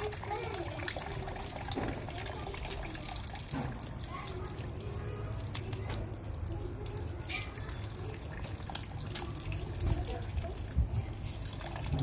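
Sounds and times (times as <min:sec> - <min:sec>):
water trickling into a basin: 0:00.0 - 0:12.0.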